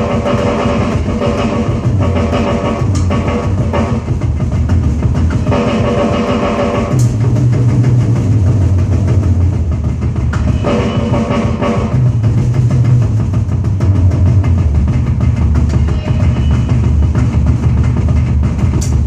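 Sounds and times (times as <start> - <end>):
electronic drum kit rock beat: 0.0 - 19.0
recorded rock music: 0.0 - 19.0.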